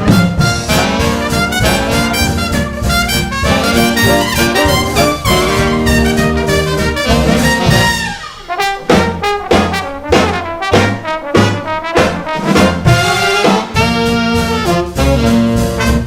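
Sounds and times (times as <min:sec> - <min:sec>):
jazz dance band music: 0:00.0 - 0:16.0.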